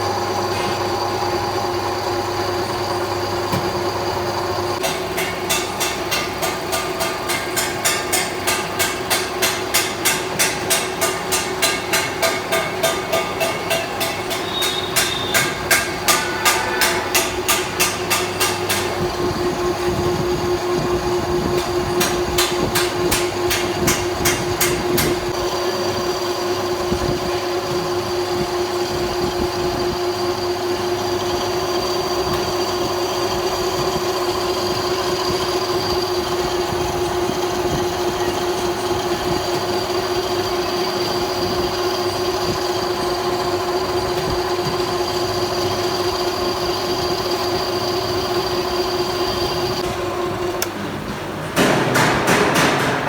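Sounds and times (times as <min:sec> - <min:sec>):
metal lathe humming: 0:00.0 - 0:26.8, 0:28.0 - 0:50.9.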